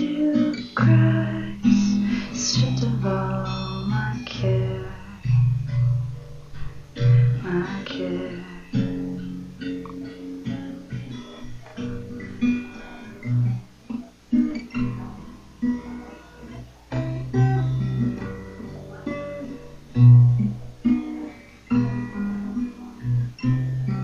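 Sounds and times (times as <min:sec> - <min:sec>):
slow guitar playing: 0:00.0 - 0:24.0.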